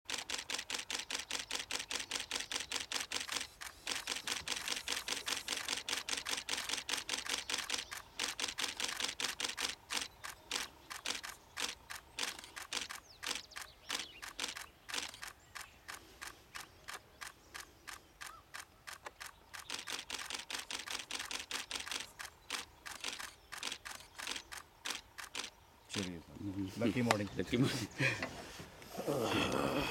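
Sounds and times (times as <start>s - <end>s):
camera shutter bursts: 0.1s - 26.1s.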